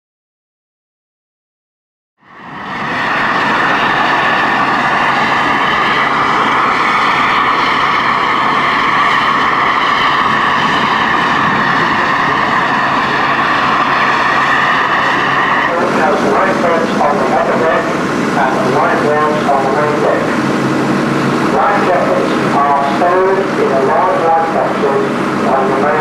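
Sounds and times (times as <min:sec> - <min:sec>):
ship machinery whining: 0:02.2 - 0:26.0.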